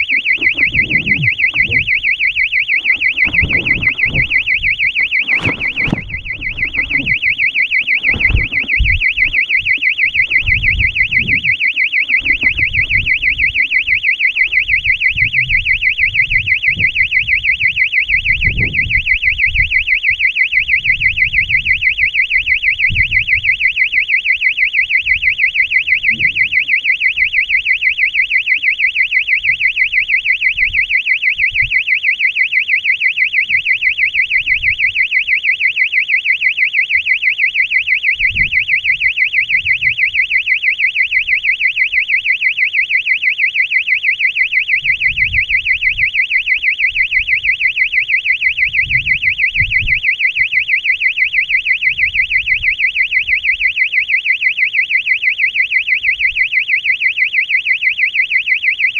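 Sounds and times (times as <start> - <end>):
warbling electronic buzzer: 0.0 - 58.9.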